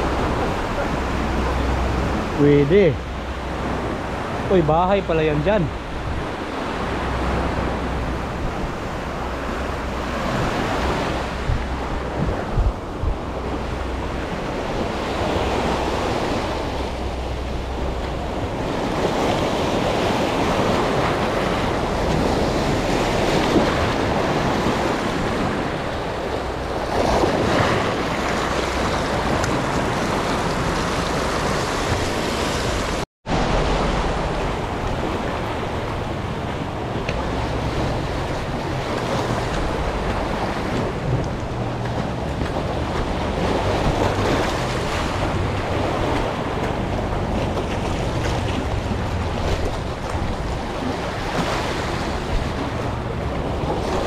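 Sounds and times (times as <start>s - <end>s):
wind noise on microphone: 0.0s - 4.6s, 5.7s - 54.0s
sea waves: 0.0s - 54.0s.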